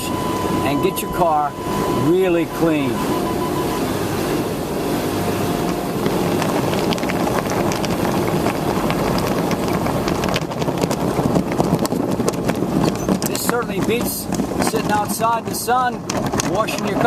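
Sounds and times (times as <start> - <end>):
car wash brushes and water spray: 0.0 - 17.0.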